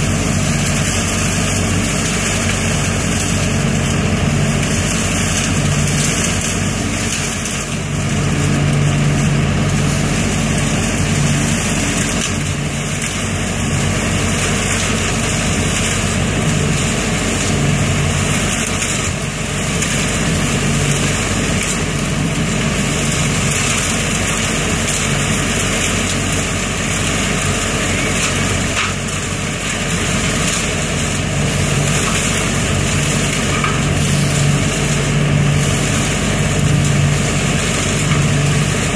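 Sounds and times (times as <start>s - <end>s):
leaf vacuum engine drone: 0.0s - 38.9s
rush of leaves in hose: 0.0s - 38.9s.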